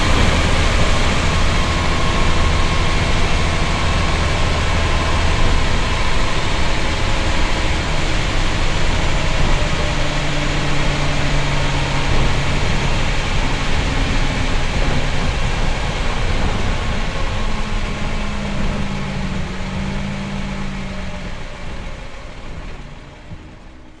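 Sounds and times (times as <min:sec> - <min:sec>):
bus diesel engine: 0:00.0 - 0:24.0
road noise: 0:00.0 - 0:24.0.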